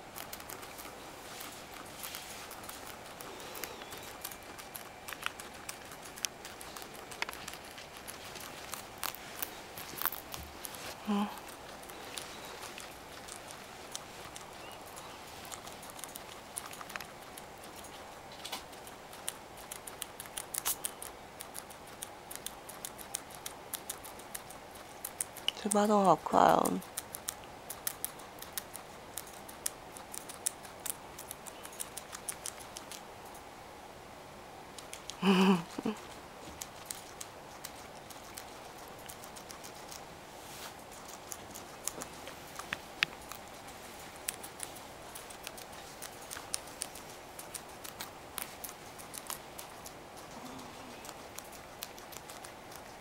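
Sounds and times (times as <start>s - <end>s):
guinea pig chewing leaves: 0.0s - 33.7s, 34.5s - 53.0s.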